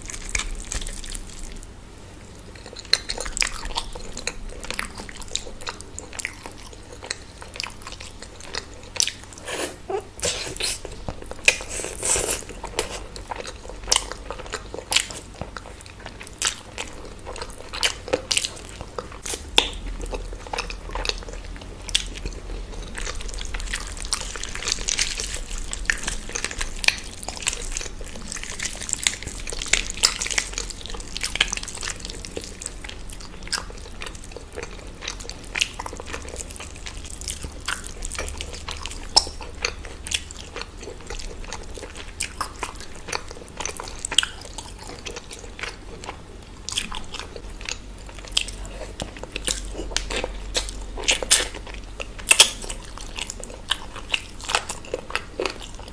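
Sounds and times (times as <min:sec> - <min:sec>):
food crunching: 0:00.0 - 0:55.9
person chewing and lip-smacking: 0:02.2 - 0:55.9.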